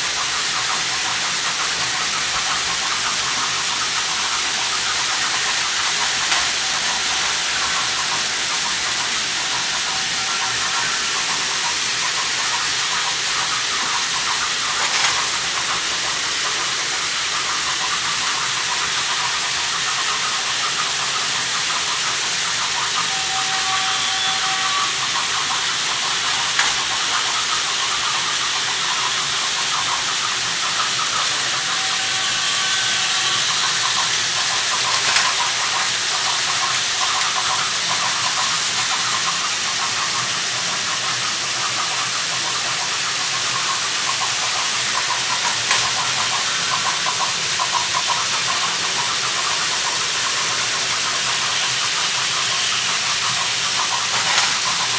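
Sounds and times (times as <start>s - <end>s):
hiss: 0.0s - 54.9s
toy train whirring and rattling: 0.0s - 54.9s.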